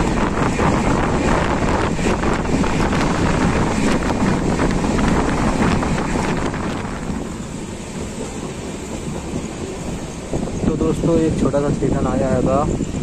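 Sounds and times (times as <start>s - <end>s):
train wheels rumbling on rails: 0.0s - 13.0s
wind rushing across microphone: 0.0s - 13.0s.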